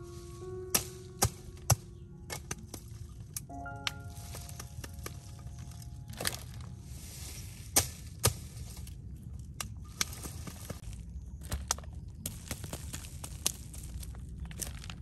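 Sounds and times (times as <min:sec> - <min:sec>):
low outdoor rumble: 0:00.0 - 0:15.0
ginger roots snapping: 0:00.7 - 0:15.0.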